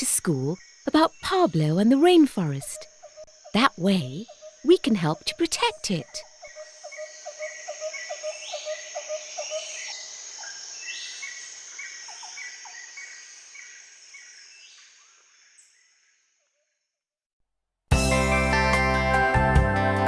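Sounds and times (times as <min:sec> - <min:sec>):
high insect buzz: 0:00.0 - 0:16.8.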